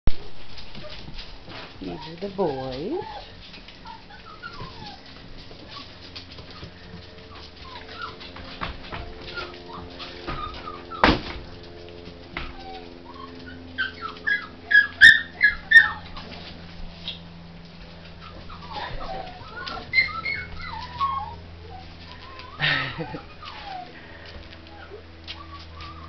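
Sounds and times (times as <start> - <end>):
puppies whining and squeaking: 0.4 - 26.0
puppies yipping: 0.4 - 26.0.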